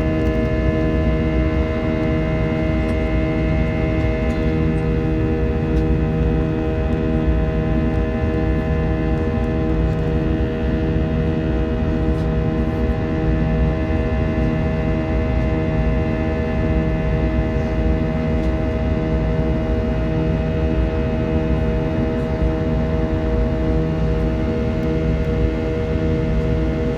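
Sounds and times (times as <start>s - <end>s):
jet engines droning in cabin: 0.0s - 26.9s.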